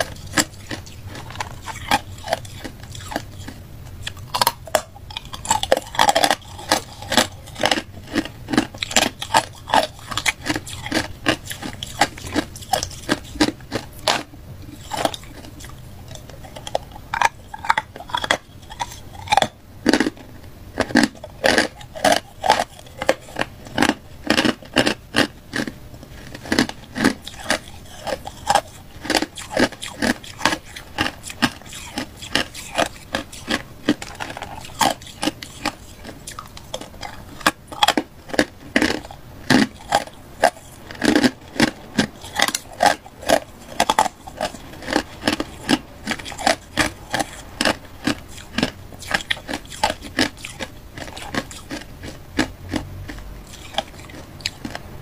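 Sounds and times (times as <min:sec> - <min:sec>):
ice crunching while chewed: 0:00.0 - 0:55.0.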